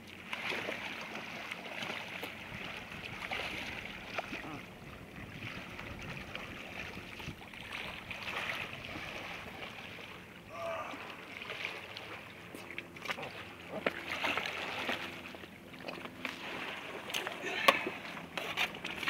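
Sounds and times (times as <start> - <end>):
paddle splashing in water: 0.0 - 19.0.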